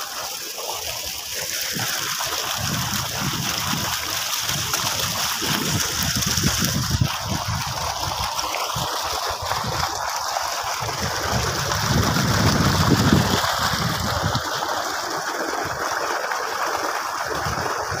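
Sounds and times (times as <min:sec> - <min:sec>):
water gushing into a pool: 0:00.0 - 0:18.0.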